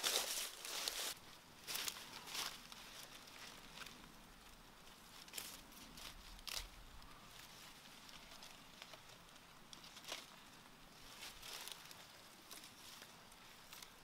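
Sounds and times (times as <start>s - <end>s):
hands rustling leafy plants: 0.0s - 14.0s.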